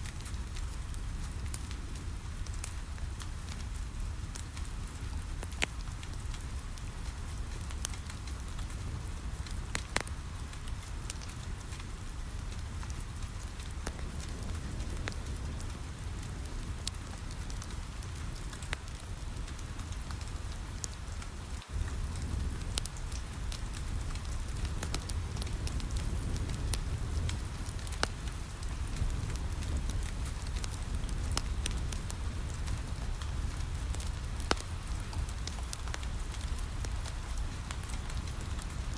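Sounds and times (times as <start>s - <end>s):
rain on a window: 0.0s - 38.9s
wood fire crackling: 0.0s - 38.9s.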